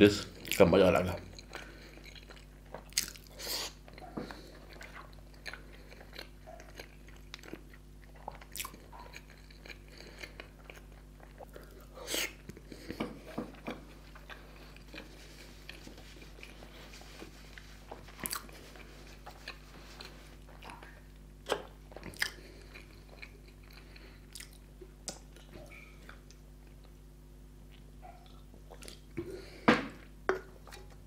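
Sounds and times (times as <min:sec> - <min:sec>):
faint electrical hum: 0:00.0 - 0:31.0
chewing sounds: 0:01.3 - 0:27.0, 0:27.6 - 0:29.2.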